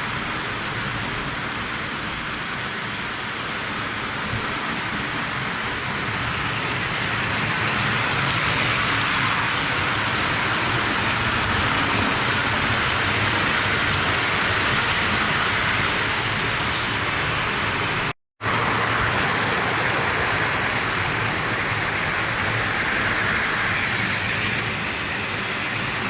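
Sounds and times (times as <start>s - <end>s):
toy train rattling on track: 2.6s - 17.8s, 19.0s - 26.0s.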